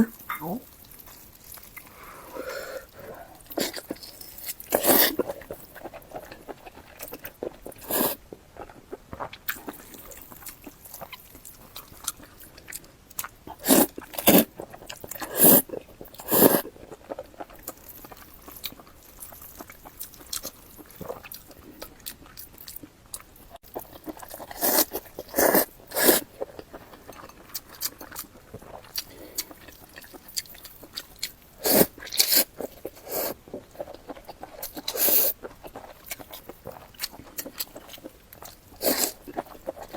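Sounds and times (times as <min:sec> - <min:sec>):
person chewing noodles: 0:00.0 - 0:39.9.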